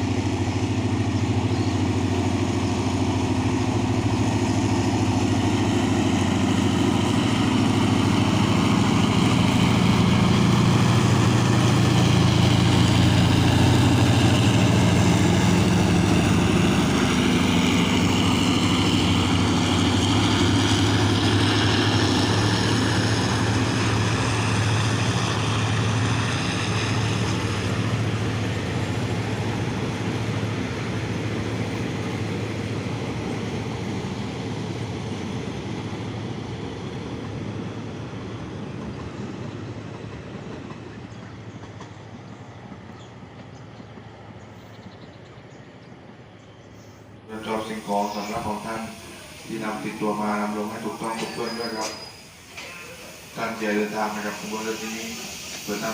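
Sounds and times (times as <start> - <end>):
diesel locomotive engine droning: 0.0 - 55.9.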